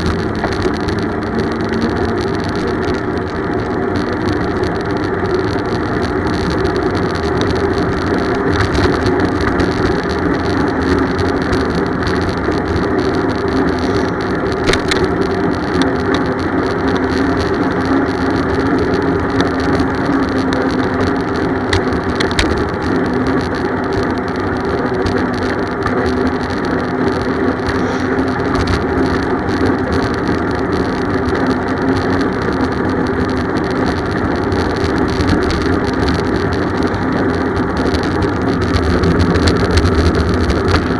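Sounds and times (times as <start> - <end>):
bicycle tyre and road noise: 0.0 - 40.9.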